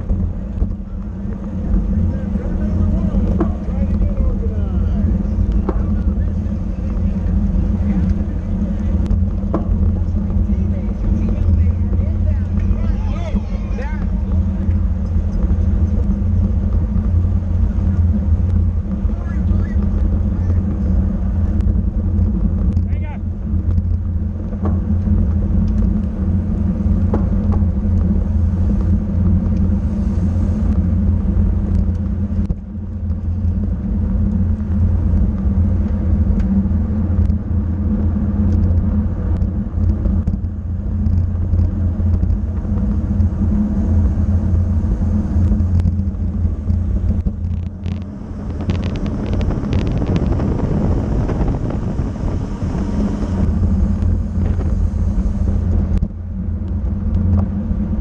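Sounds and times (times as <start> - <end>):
bicycle road noise: 0.0 - 58.0
wind rumble: 0.0 - 58.0.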